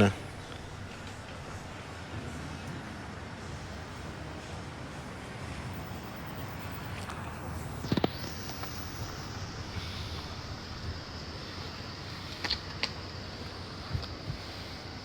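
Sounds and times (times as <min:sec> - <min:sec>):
street background noise: 0:00.0 - 0:15.0.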